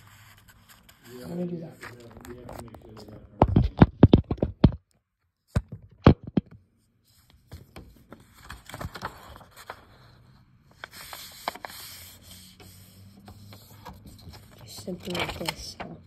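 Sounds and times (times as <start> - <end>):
paper rustling and crackling: 0.0 - 4.7, 7.4 - 16.0.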